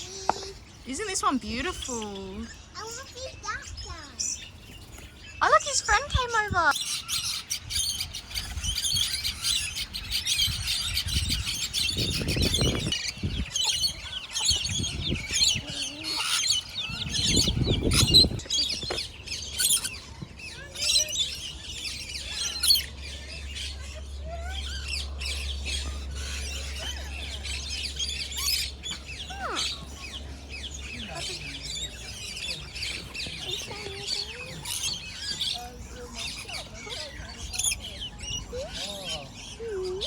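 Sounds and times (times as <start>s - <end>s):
small birds chirping and twittering: 0.0s - 40.0s.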